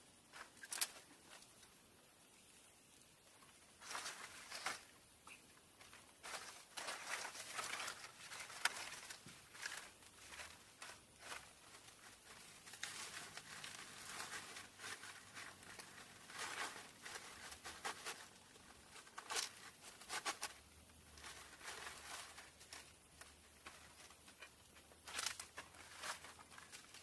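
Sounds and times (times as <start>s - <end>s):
rustling and crinkling: 0.0s - 27.0s.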